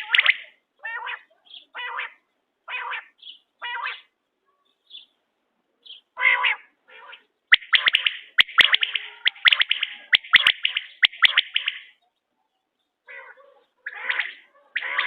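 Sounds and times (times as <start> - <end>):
quail calling: 0.0 - 4.2, 5.8 - 12.0, 13.0 - 15.0.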